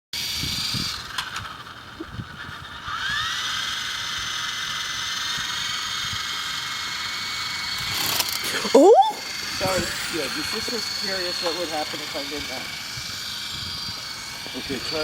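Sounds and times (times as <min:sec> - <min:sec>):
toy helicopter motor whining: 0:00.2 - 0:15.0.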